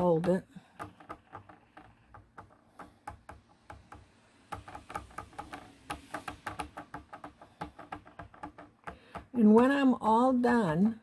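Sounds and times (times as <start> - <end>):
ink pad tapping on stamps: 0.0 - 9.4.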